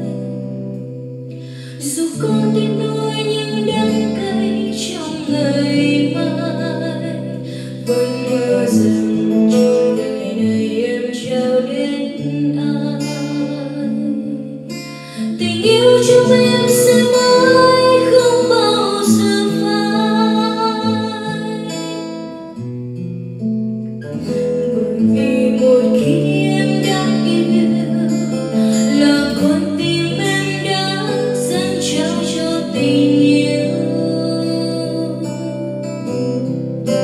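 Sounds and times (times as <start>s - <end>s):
woman singing into a microphone: 0.0s - 22.6s, 24.6s - 37.0s
acoustic guitar: 0.0s - 37.0s.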